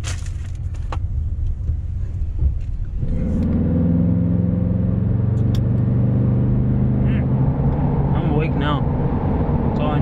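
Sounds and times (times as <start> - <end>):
truck engine drone: 0.4 - 10.0.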